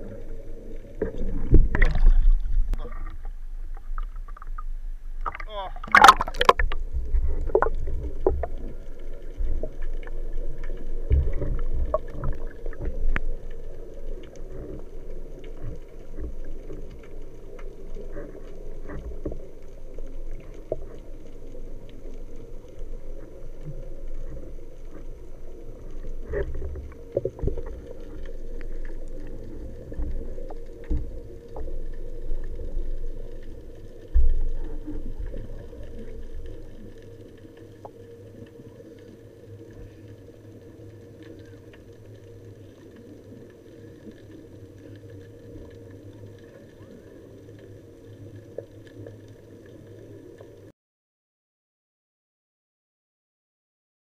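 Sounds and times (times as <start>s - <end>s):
underwater rumble of moving water: 0.0s - 50.7s.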